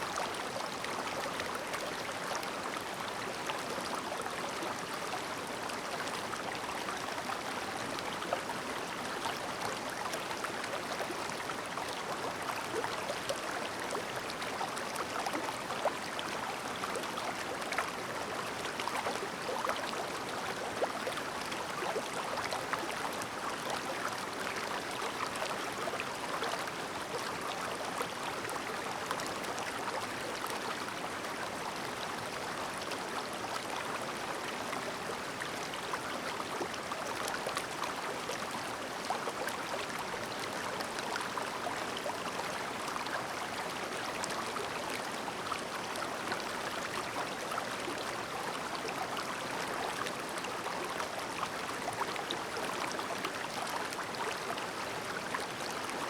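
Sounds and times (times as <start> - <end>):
stream babbling: 0.0 - 56.0.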